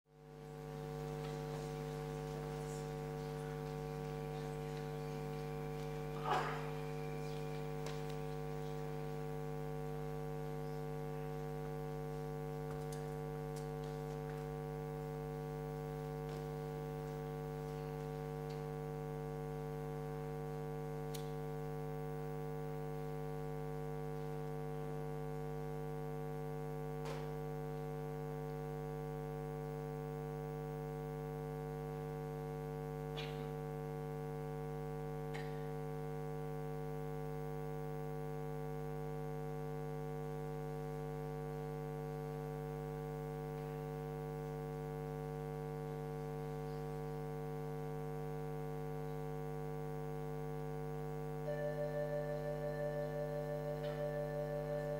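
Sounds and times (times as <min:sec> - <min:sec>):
buzzy electrical hum: 0:00.1 - 0:54.9.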